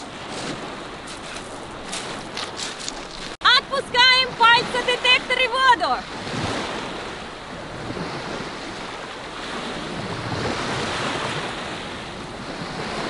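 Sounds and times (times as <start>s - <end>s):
waves washing over pebbles: 0.0s - 3.4s, 4.0s - 13.0s
wind on microphone: 0.0s - 13.0s.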